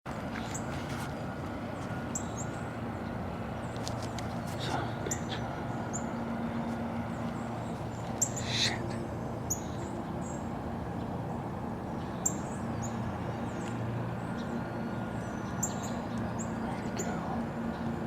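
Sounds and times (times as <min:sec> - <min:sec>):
steady low hum: 0:00.1 - 0:18.0
small birds chirping: 0:01.8 - 0:18.0.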